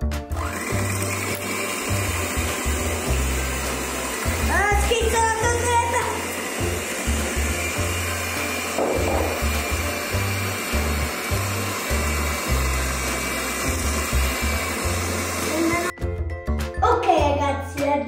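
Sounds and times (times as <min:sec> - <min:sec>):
electric hand mixer whisking: 0:00.3 - 0:16.0.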